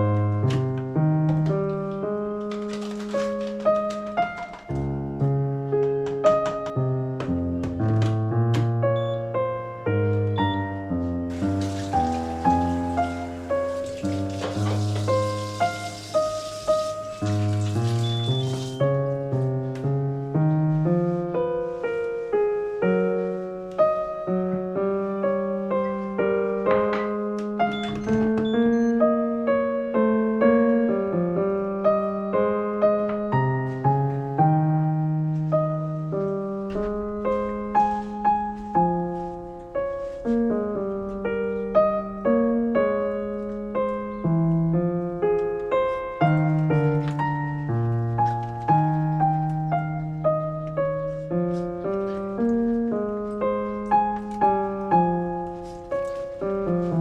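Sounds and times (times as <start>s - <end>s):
gentle piano music: 0.0s - 57.0s.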